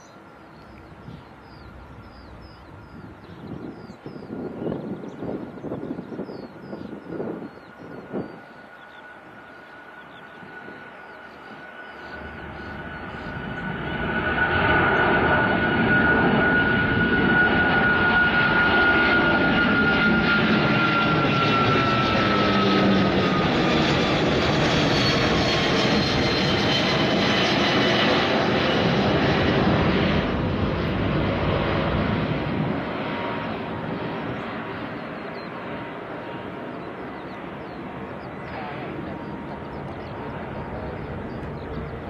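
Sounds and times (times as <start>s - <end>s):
high jet whine: 0.0s - 42.0s
jet airliner roaring overhead: 0.0s - 42.0s.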